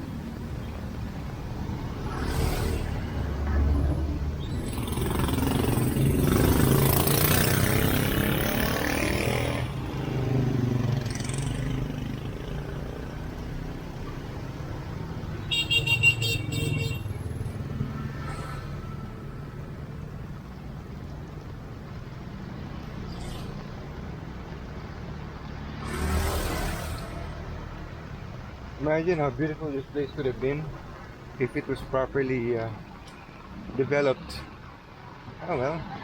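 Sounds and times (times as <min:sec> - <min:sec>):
vehicles passing: 0:00.0 - 0:36.0.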